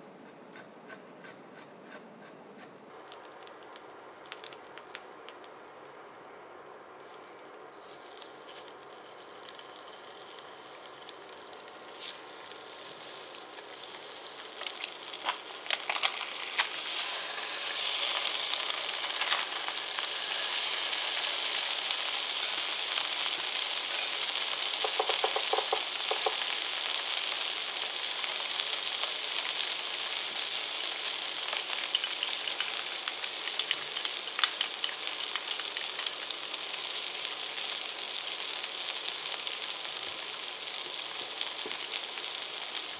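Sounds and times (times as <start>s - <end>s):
fish sizzling in a frying pan: 8.0s - 42.9s.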